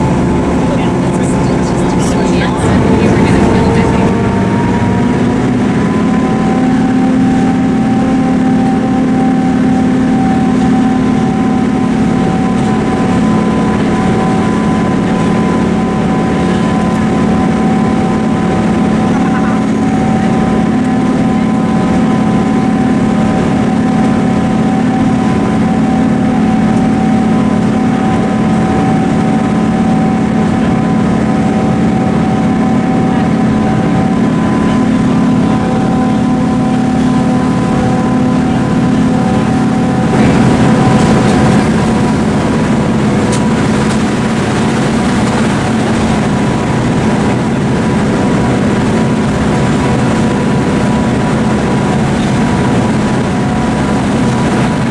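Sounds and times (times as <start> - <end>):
train engine drone: 0.0 - 54.9.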